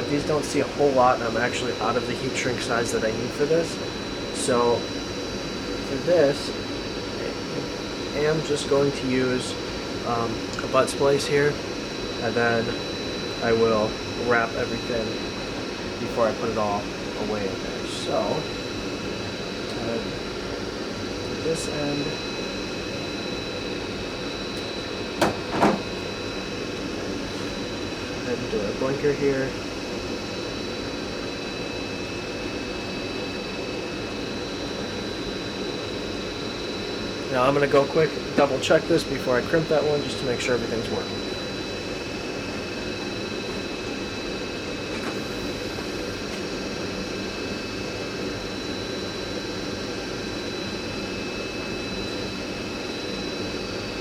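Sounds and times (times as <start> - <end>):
faint high whine: 0.0 - 54.0
fan hum: 0.0 - 54.0
mechanical drone: 0.0 - 54.0.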